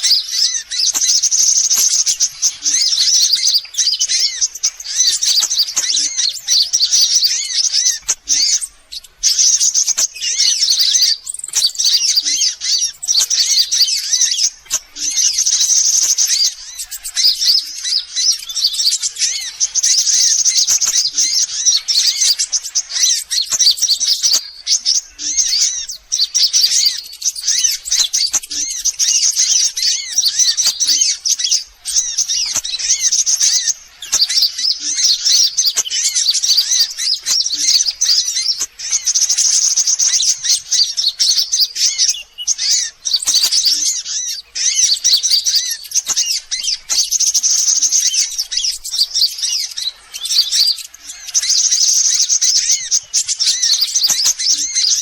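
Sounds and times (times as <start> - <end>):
bird chirping and twittering: 0.0 - 55.0.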